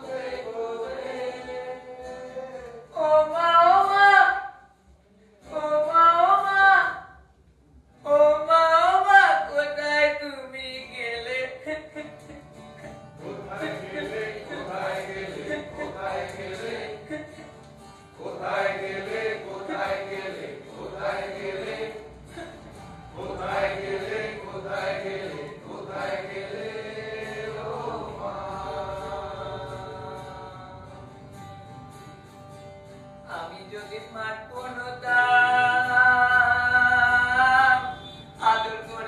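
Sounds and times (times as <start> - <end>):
music: 0.0 - 39.0.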